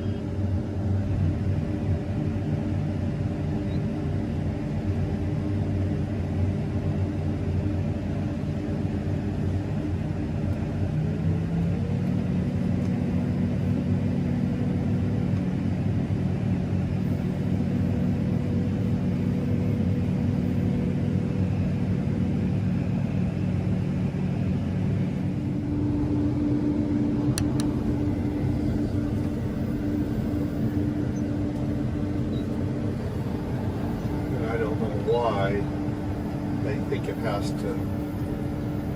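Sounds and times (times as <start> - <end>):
combine harvester humming: 0.0 - 38.9.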